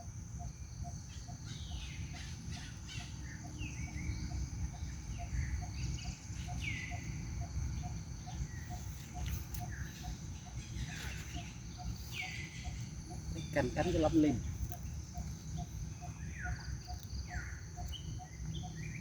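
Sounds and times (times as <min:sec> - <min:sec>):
high insect drone: 0:00.0 - 0:19.0
steady low rumble: 0:00.0 - 0:19.0
bird chirps: 0:00.4 - 0:19.0.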